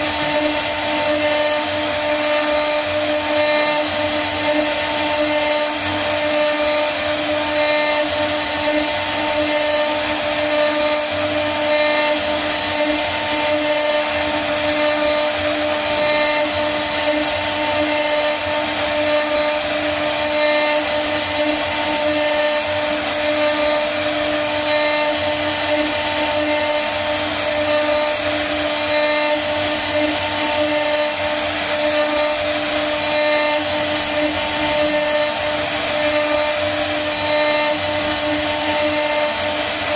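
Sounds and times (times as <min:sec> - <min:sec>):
bit cutting wood: 0:00.0 - 0:39.9
router spindle whining: 0:00.0 - 0:39.9.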